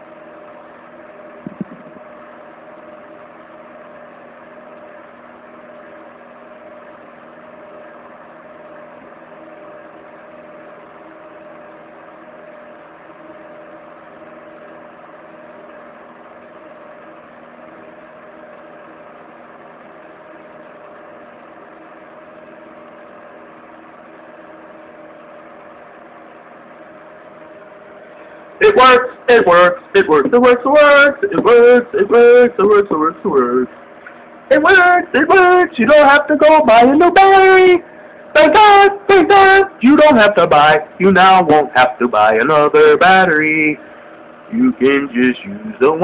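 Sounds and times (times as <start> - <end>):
machine hum with steady tone: 0.0 - 46.0.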